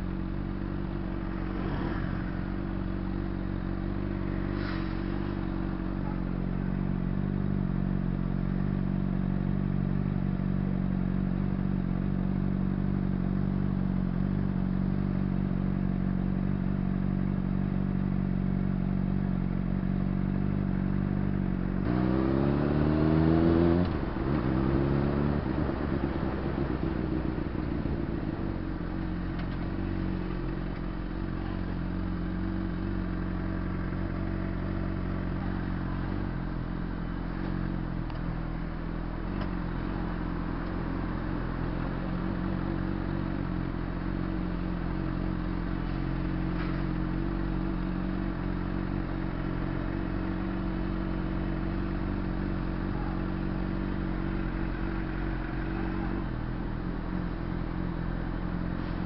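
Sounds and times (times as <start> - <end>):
motorcycle engine idling: 0.0 - 21.9, 24.0 - 59.0.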